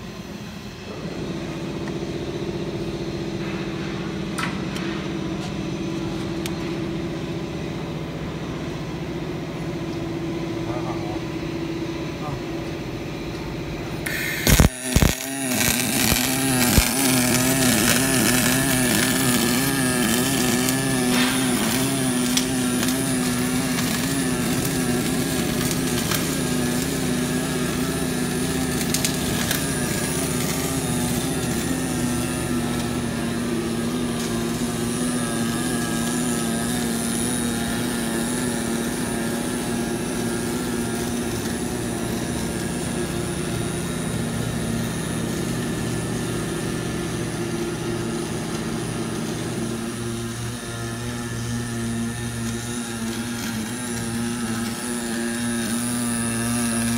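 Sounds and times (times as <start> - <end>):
welding arc hiss and hum: 0.0 - 56.9.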